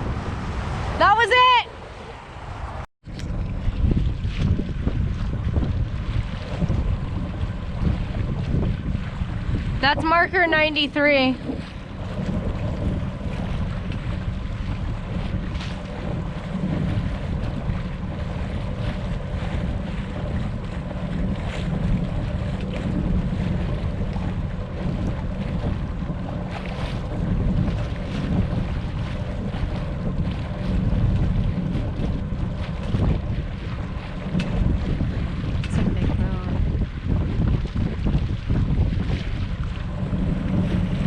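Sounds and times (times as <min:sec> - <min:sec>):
boat engine humming: 0:00.0 - 0:41.0
water rushing along hull: 0:00.0 - 0:41.0
wind buffeting microphone: 0:00.0 - 0:41.0.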